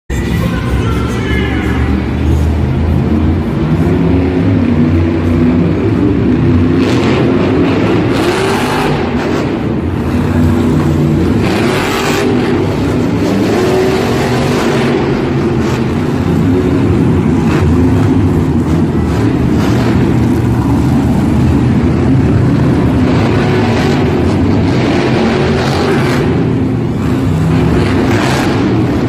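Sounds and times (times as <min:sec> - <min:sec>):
monster truck engines revving: 0:00.1 - 0:29.0.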